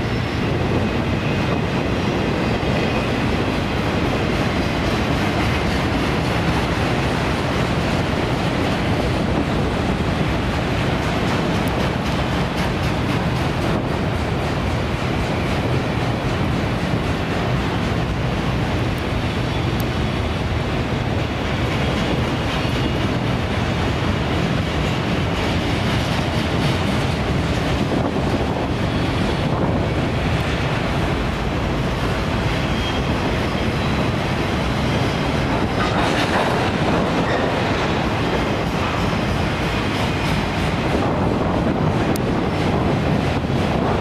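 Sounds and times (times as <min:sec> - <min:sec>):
train wheels on rails: 0:00.0 - 0:44.0.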